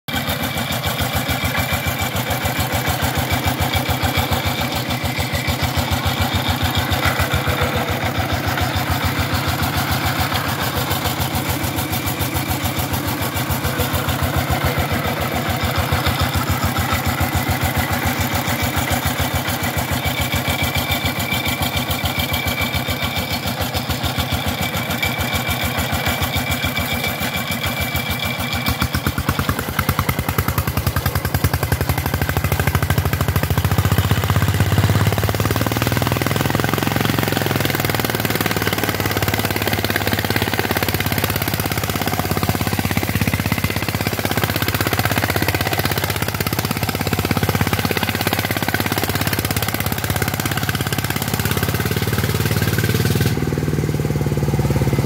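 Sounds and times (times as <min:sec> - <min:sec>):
diesel engine thumping: 0:00.1 - 0:55.0.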